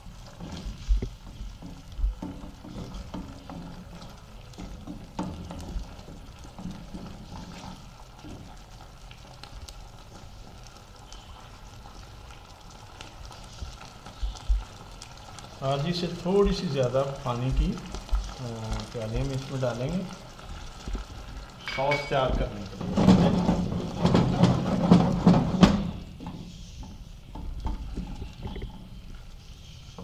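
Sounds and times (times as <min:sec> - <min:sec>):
wooden spatula scraping a pan: 0:00.0 - 0:12.0, 0:13.2 - 0:30.0
chicken sizzling in a frying pan: 0:00.0 - 0:30.0.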